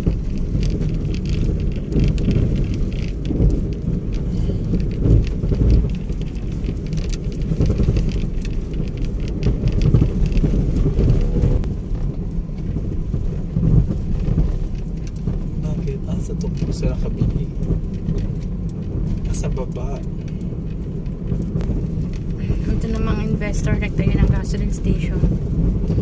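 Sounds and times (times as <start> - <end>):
rough crackly noise: 0.0 - 26.0
vehicle road and engine rumble: 0.0 - 26.0.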